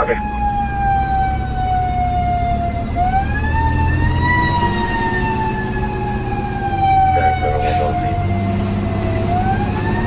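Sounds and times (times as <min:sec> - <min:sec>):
diesel engine droning: 0:00.0 - 0:10.0
fire engine siren: 0:00.0 - 0:10.0.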